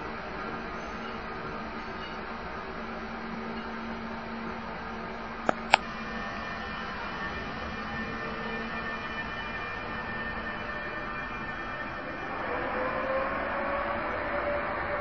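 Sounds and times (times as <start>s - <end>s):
electric locomotive humming: 0.0s - 15.0s.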